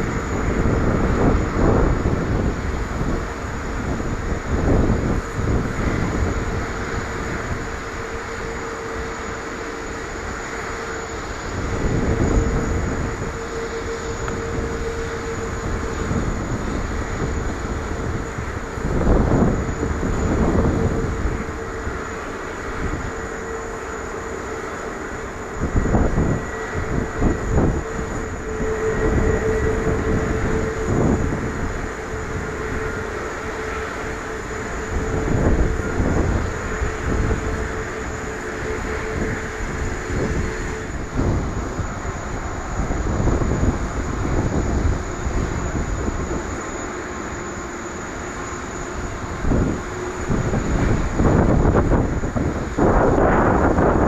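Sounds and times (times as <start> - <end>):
distant jet engines whining: 0.0 - 54.0.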